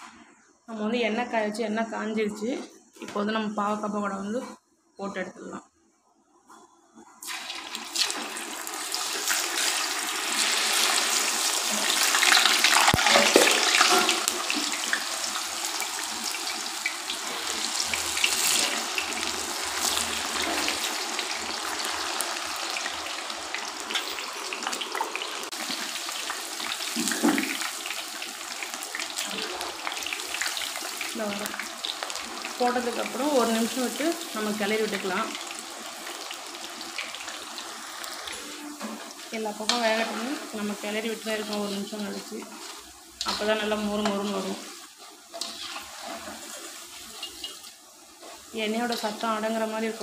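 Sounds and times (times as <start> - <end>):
hot oil sizzling: 7.2 - 50.0.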